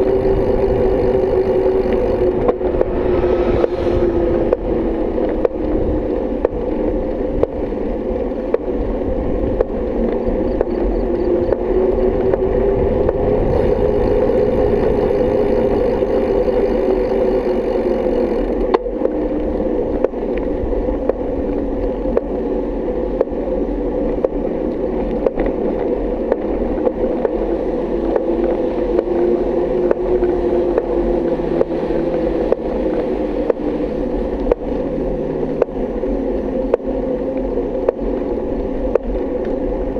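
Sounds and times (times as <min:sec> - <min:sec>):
bike rolling on pavement: 0:00.0 - 0:39.9.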